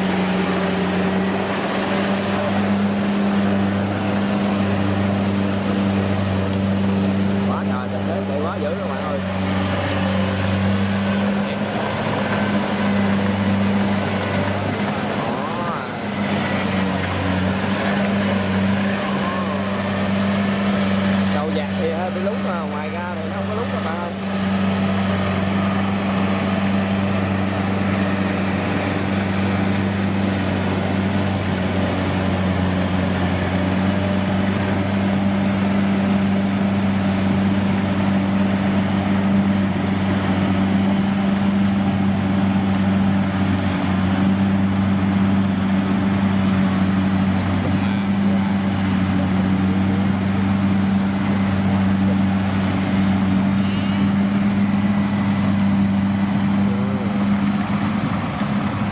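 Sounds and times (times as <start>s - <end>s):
diesel engine running steadily: 0.0s - 58.9s.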